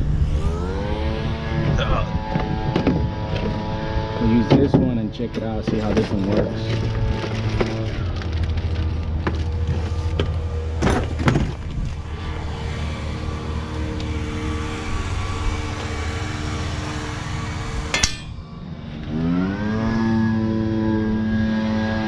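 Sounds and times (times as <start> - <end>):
engine revving up: 0.0 - 8.1, 12.0 - 22.0
engine running steadily: 0.0 - 22.0.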